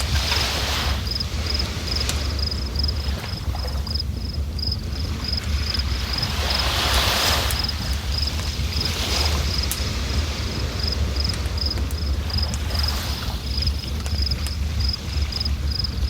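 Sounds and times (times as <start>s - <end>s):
insect chirping: 0.0s - 16.0s
river rushing with low rumble: 0.0s - 16.0s.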